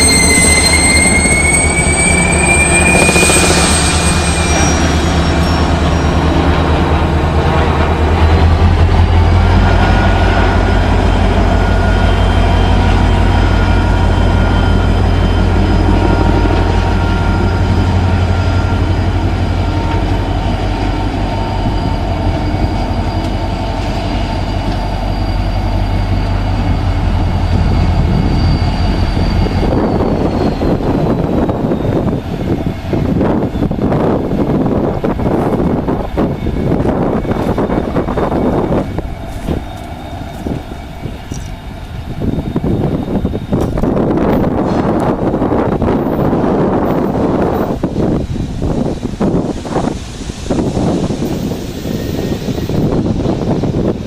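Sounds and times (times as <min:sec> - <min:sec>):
diesel locomotive engine drone: 0:00.0 - 0:54.0
engine whine: 0:00.0 - 0:54.0.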